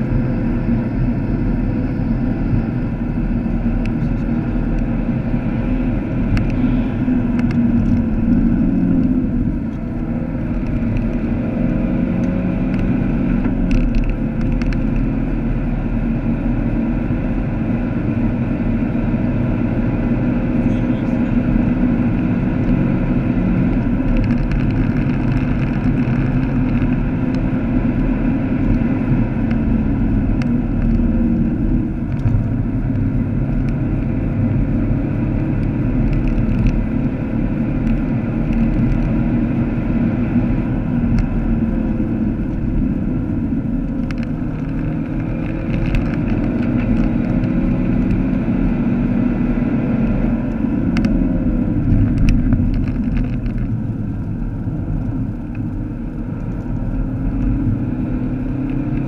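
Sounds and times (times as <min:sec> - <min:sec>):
car engine running at speed: 0:00.0 - 0:59.0
tyre and road noise: 0:00.0 - 0:59.0.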